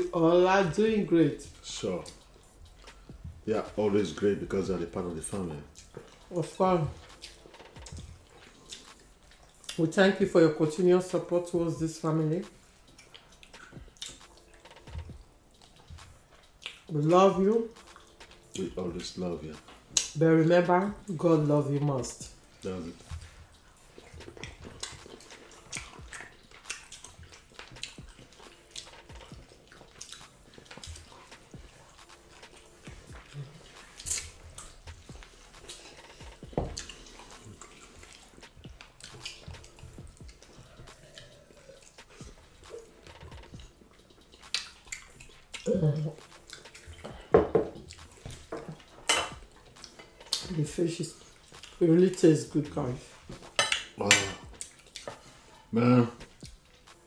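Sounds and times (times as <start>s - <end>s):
wet chewing and lip-smacking: 0.0s - 10.2s, 12.0s - 57.0s.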